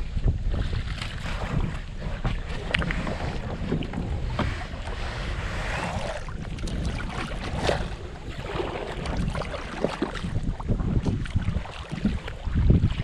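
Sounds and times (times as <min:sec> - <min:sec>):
wind buffeting microphone: 0:00.0 - 0:13.0
paddles splashing in water: 0:00.2 - 0:13.0.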